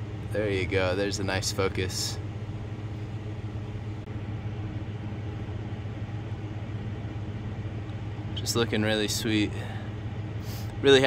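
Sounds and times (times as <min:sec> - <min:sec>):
fans humming and hissing: 0:00.0 - 0:11.0.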